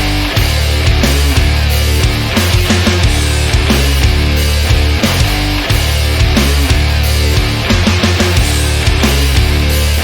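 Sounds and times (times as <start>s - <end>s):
distorted guitars: 0.0s - 10.0s
driving drums: 0.0s - 10.0s
heavy rock music: 0.0s - 10.0s.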